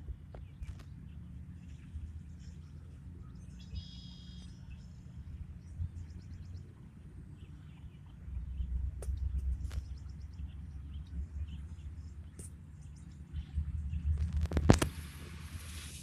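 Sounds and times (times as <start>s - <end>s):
low outdoor rumble: 0.0s - 16.0s
small birds chirping: 0.3s - 14.2s.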